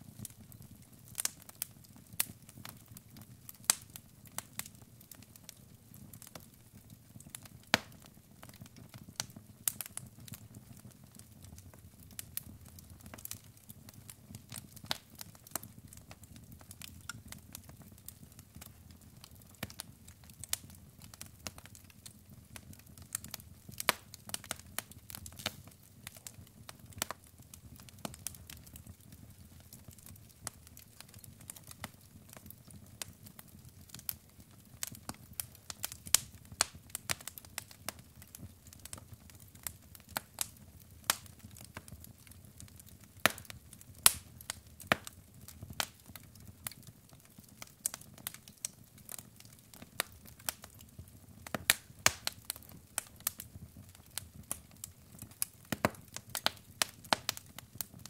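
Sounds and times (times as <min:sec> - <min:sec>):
burning logs crackling: 0:00.0 - 0:58.0.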